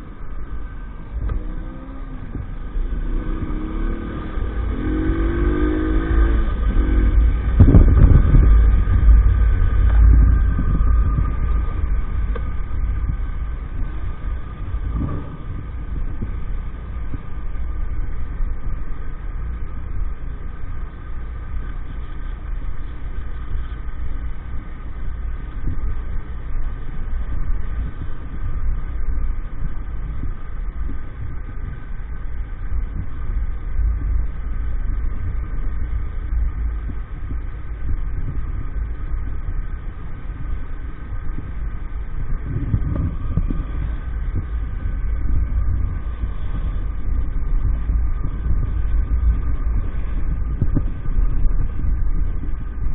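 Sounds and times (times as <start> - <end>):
motorbike engine drone: 0.0 - 52.9
wind rumble on microphone: 0.0 - 52.9.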